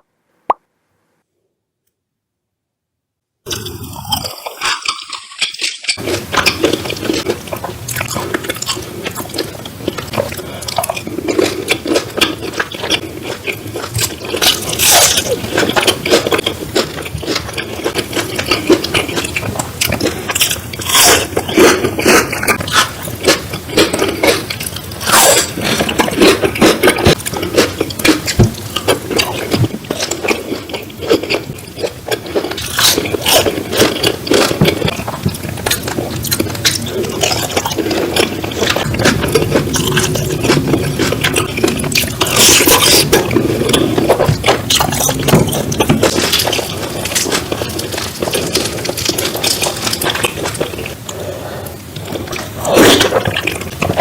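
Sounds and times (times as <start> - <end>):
wet chewing and slurping: 3.5 - 54.0.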